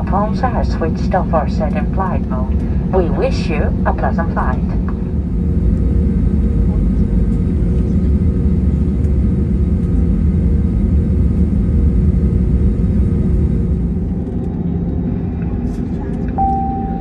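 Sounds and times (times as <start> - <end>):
aircraft cabin rumble: 0.0 - 17.0
jet engines humming: 0.0 - 17.0.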